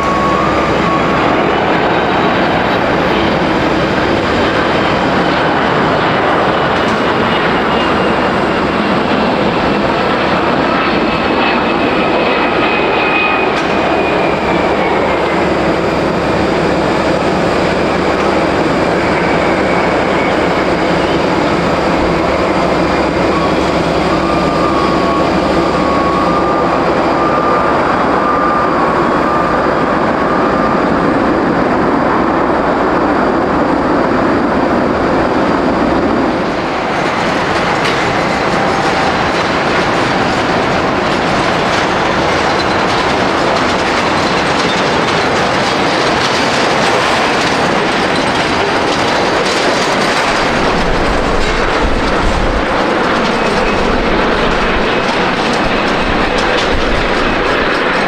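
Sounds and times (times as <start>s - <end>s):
jet engine roar: 0.0s - 30.5s, 35.4s - 58.0s.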